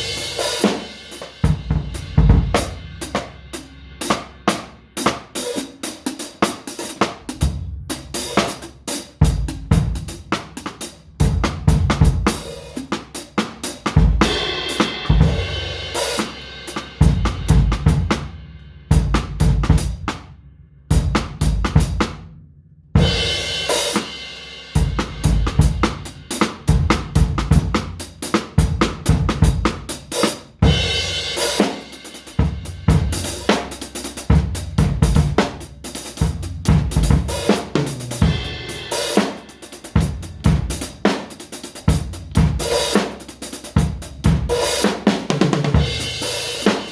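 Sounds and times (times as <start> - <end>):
drum kit playing: 0.0 - 46.9.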